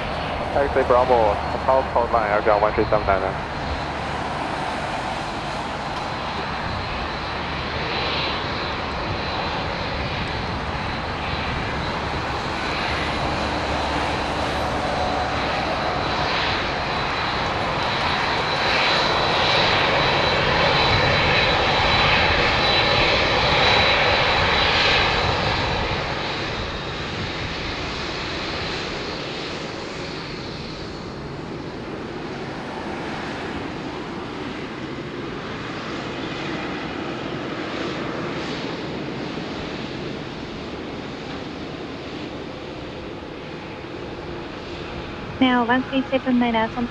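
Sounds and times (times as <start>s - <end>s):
jet engines passing by: 0.0s - 46.9s.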